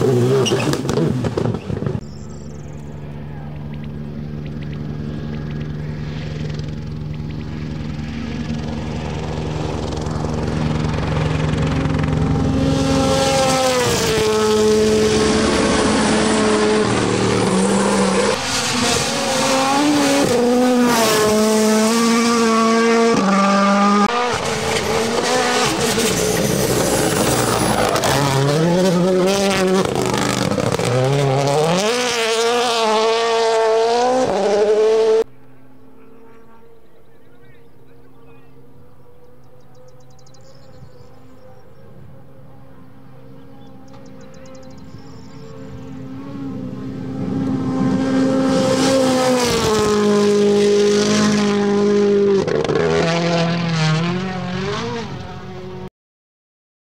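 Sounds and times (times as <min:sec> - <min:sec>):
rally car engines revving hard: 0:00.0 - 0:02.5, 0:04.0 - 0:36.8, 0:37.6 - 0:55.9.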